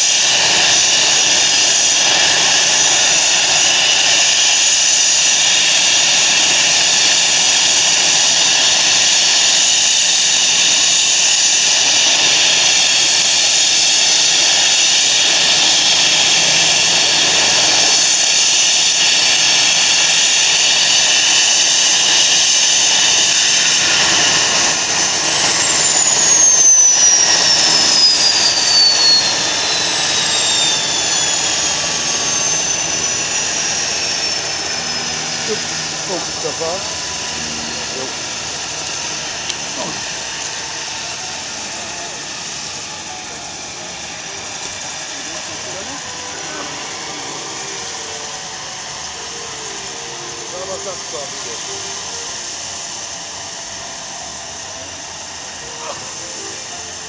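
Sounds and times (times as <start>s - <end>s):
falling turbine tones: 0.0s - 57.0s
helicopter rotor noise: 0.0s - 57.0s
helicopter turbine whine: 0.0s - 57.0s.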